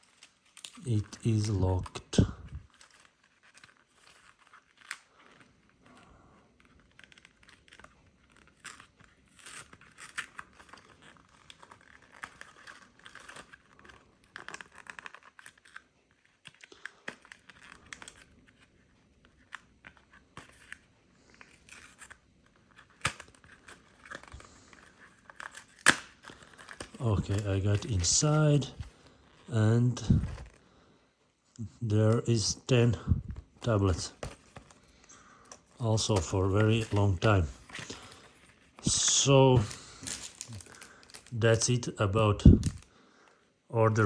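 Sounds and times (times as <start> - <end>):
packaging crinkling and tearing: 0.0 - 30.8, 33.1 - 41.8.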